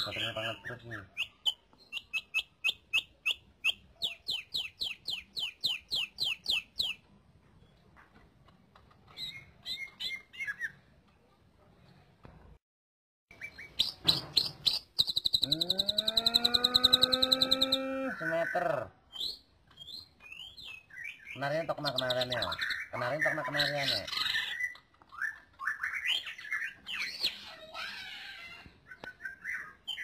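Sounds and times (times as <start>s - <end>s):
bird chirping: 0.0s - 11.3s, 13.3s - 30.0s.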